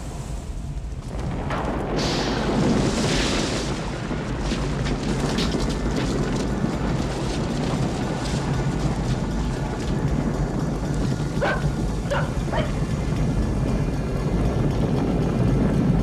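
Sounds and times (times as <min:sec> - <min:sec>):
deep rumble with crackling: 0:00.0 - 0:16.0
fire flaring with a whoosh: 0:00.0 - 0:16.0.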